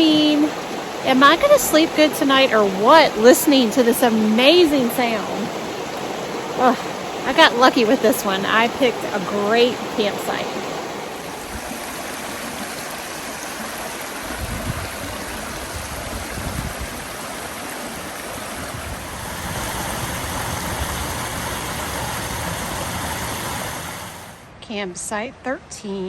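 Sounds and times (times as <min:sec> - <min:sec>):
water rushing over cascades: 0:00.0 - 0:24.4.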